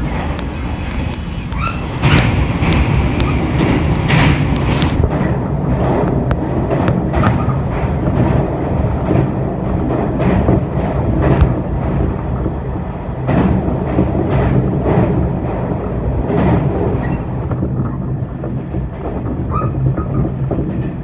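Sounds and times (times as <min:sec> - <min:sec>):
electric train humming: 0:00.0 - 0:21.0
wheels clacking over rail joints: 0:00.0 - 0:21.0.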